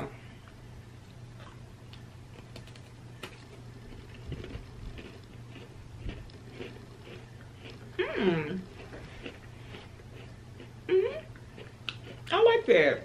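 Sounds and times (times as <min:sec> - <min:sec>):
faint low hum: 0:00.0 - 0:13.0
cookie crunching while chewing: 0:01.3 - 0:12.7.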